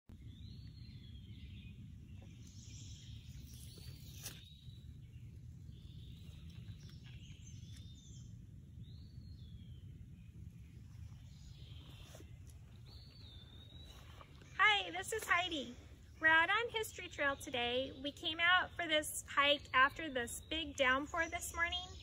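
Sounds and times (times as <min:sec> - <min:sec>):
birds singing: 0:00.1 - 0:22.0
steady low rumble: 0:00.1 - 0:22.0.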